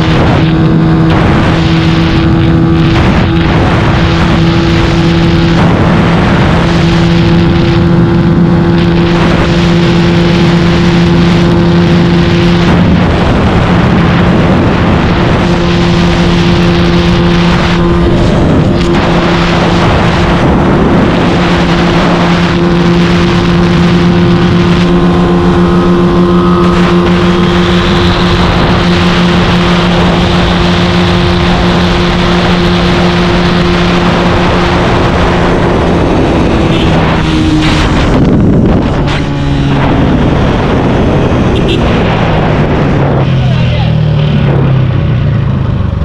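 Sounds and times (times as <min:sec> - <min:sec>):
wind rushing: 0:00.0 - 0:45.4
small motorcycle engine at full throttle: 0:00.0 - 0:46.0.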